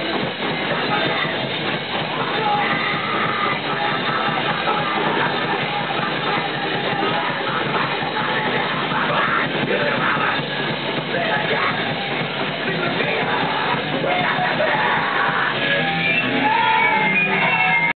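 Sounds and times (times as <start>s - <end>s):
drums: 0.0s - 17.9s
electric guitar: 0.0s - 17.9s
shouted vocals: 0.7s - 17.9s.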